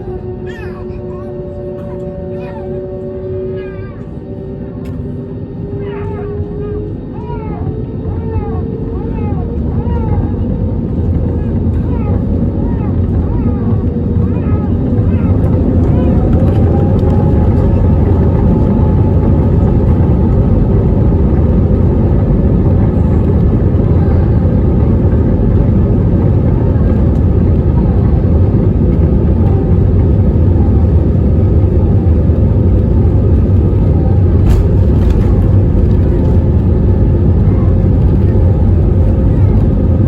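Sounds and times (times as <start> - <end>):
jet engines roaring: 0.0 - 40.0.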